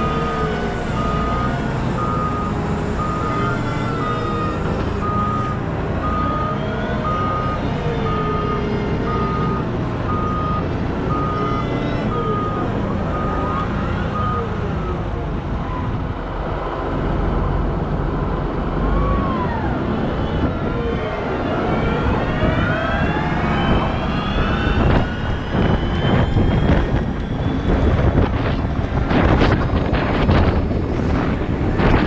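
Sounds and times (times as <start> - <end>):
heavy diesel engines revving: 0.0 - 32.0.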